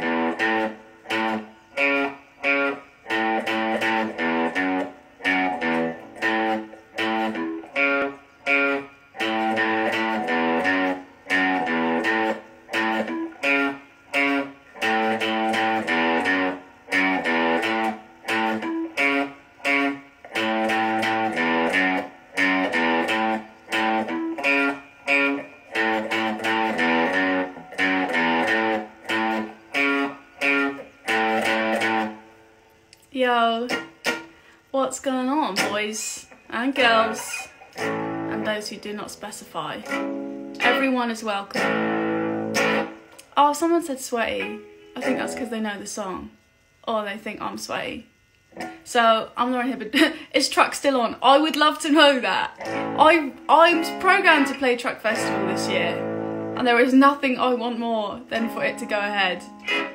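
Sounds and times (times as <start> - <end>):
electric guitar choppy strumming: 0.0 - 32.9, 33.5 - 34.5, 35.4 - 43.5, 44.3 - 46.0, 48.5 - 49.0, 51.4 - 59.9.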